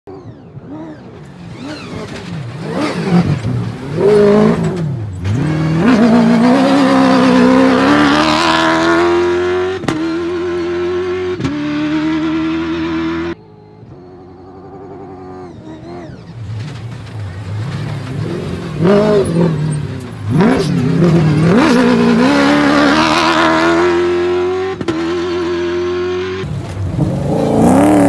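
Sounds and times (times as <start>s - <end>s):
rally truck engine passing: 0.1s - 28.0s.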